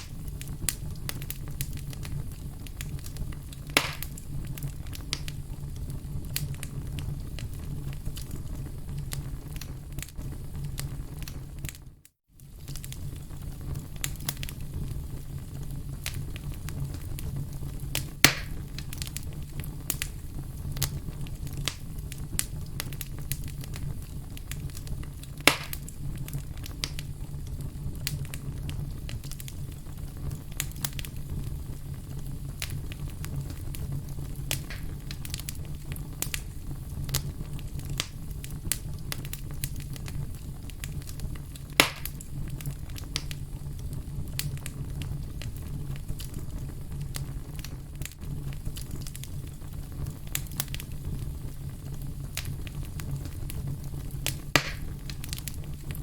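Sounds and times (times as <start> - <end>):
loud fire pops: 0.0 - 11.8, 12.4 - 56.0
fire crackling: 0.0 - 56.0
fire low rumble: 0.0 - 56.0.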